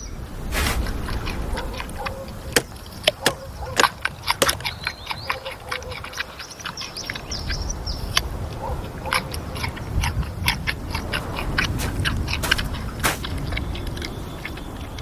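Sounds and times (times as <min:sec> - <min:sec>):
panda crunching a carrot: 0:00.4 - 0:15.0.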